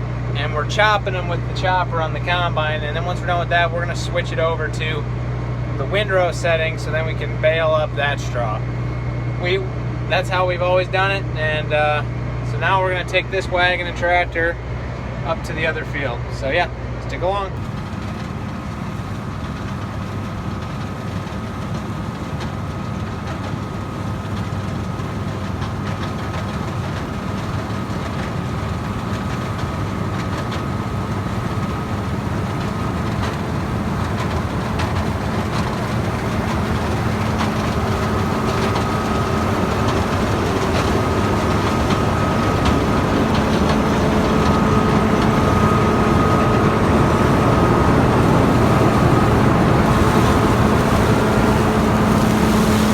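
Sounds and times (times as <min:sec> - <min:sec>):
steady whine: 0:00.0 - 0:52.9
tractor engine running: 0:00.0 - 0:52.9.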